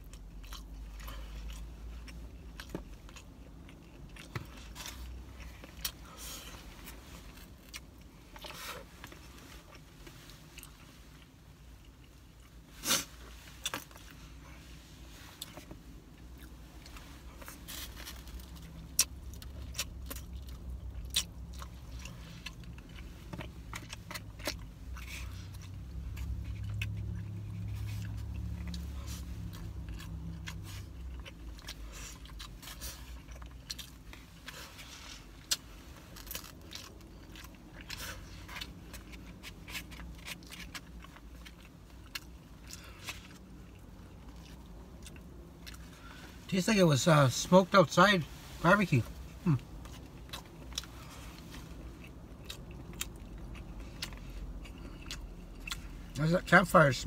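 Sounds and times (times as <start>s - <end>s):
person chewing food: 0.0s - 46.4s, 49.2s - 56.2s.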